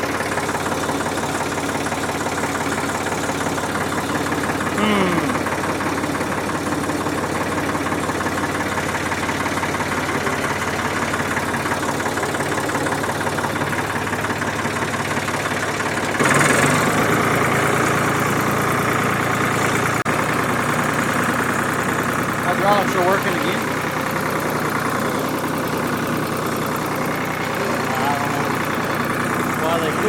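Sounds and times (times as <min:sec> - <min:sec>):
tractor engine idling: 0:00.0 - 0:30.0.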